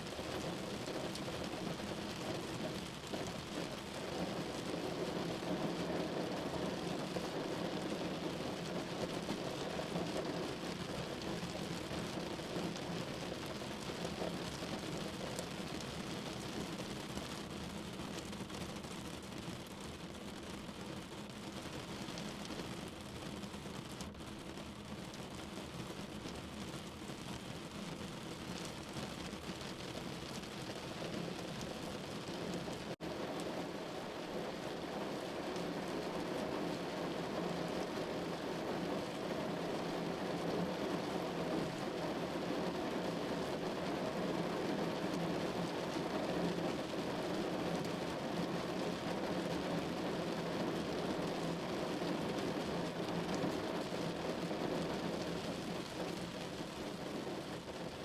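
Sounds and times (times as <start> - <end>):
rain on a window pane: 0.0 - 58.0.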